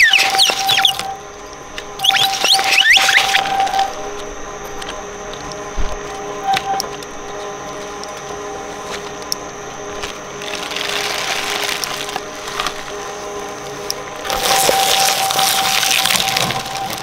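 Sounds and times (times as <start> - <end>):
shredder motor humming: 0.0 - 17.0
toy crunching in shredder: 0.0 - 17.0.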